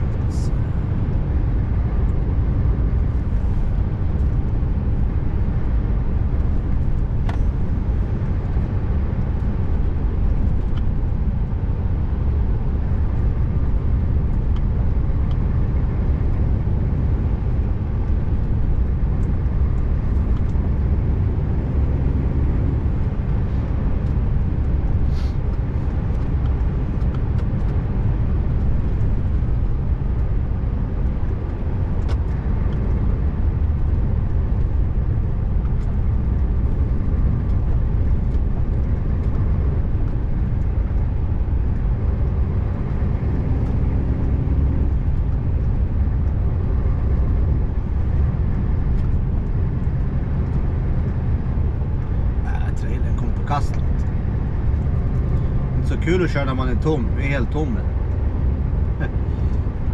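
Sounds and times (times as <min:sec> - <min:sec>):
road and tyre noise: 0:00.0 - 0:59.9
truck diesel engine rumbling: 0:00.0 - 0:59.9.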